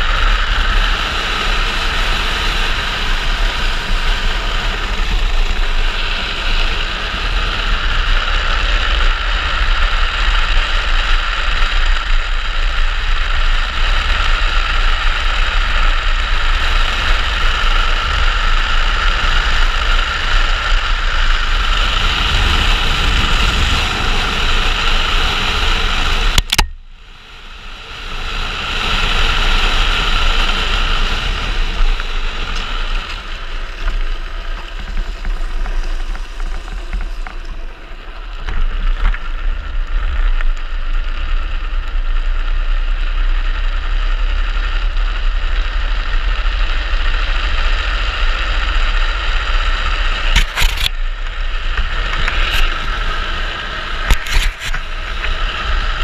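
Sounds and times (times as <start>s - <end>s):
wind rush and road noise: 0.0s - 56.0s.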